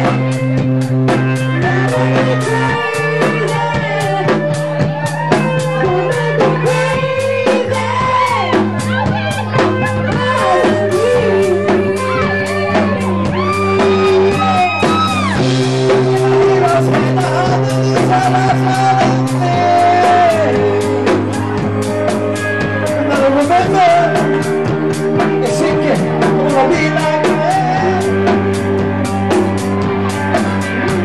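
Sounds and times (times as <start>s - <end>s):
bass line: 0.0s - 31.0s
drum beat: 0.0s - 31.0s
electric guitar: 0.0s - 31.0s
person singing: 0.0s - 31.0s.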